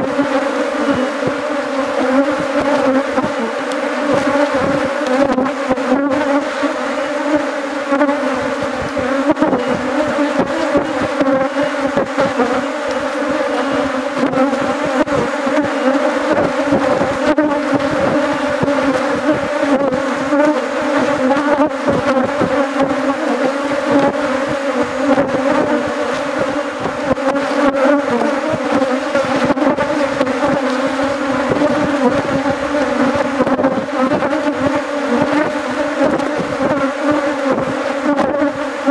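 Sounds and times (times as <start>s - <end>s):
honeybees humming: 0.0s - 38.9s.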